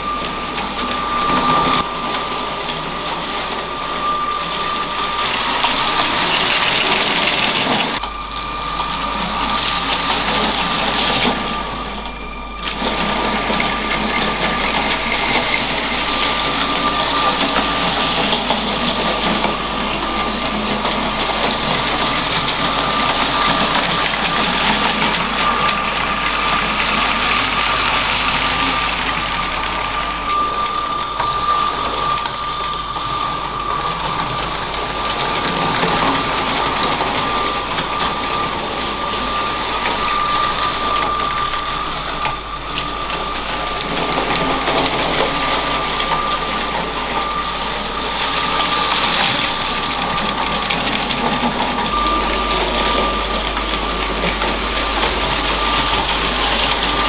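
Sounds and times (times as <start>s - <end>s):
toy train motor whining: 0.0s - 57.0s
wheels rattling on plastic track: 0.0s - 57.0s.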